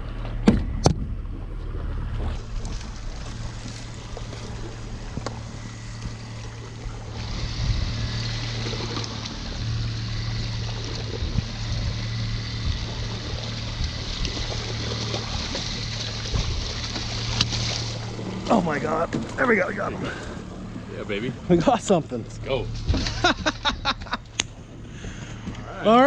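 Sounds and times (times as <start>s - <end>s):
outboard motor running: 0.0s - 26.0s
hiss of water and wind: 1.6s - 26.0s
water splashing: 1.6s - 26.0s.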